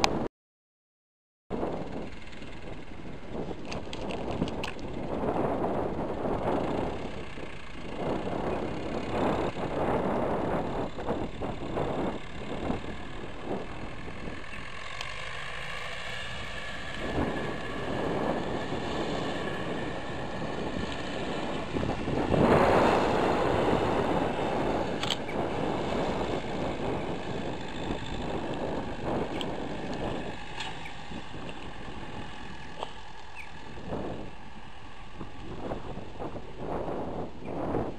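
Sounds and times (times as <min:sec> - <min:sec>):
wind buffeting the microphone: 0:01.5 - 0:37.9.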